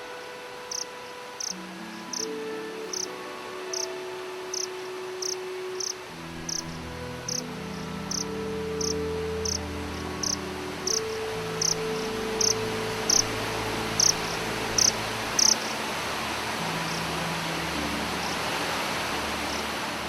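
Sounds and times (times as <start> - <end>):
insect chirping: 0.0 - 16.0, 16.8 - 17.1, 18.0 - 19.7
soft music chord: 0.0 - 20.0
steady hiss: 0.0 - 20.0.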